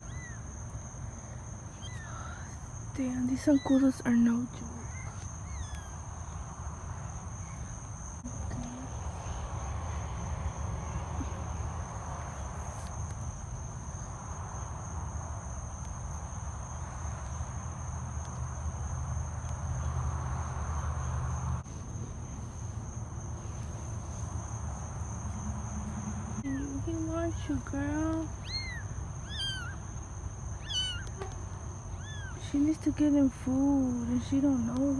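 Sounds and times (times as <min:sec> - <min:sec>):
insect chorus chirring: 0:00.0 - 0:34.9.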